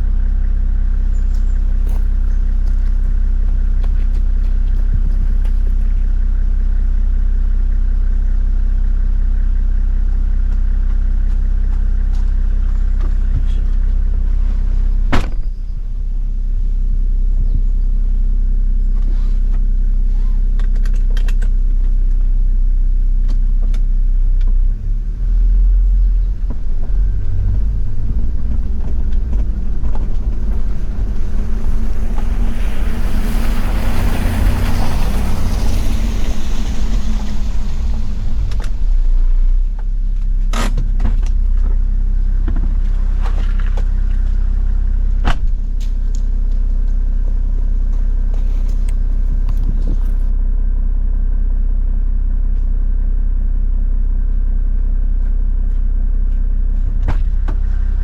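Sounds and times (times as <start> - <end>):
tyre road noise: 0.0 - 50.4
diesel engine rumbling: 0.0 - 58.0.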